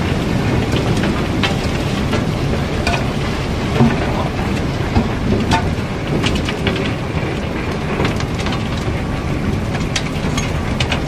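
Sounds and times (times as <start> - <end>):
steady low rumble: 0.0 - 11.0
rock and ore clattering down: 0.6 - 11.0.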